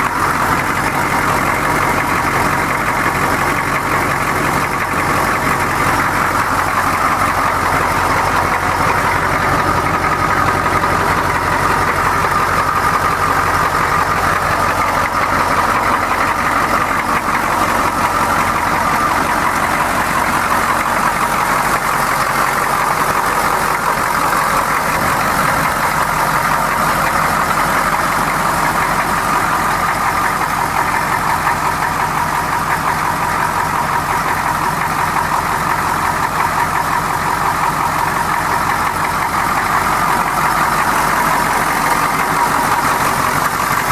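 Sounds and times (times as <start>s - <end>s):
diesel pickup engine idling: 0.0s - 43.9s.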